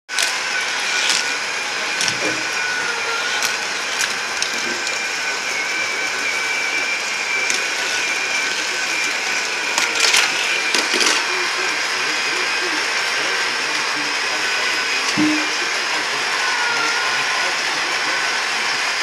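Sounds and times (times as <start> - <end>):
toy motor whirring: 0.1 - 19.0.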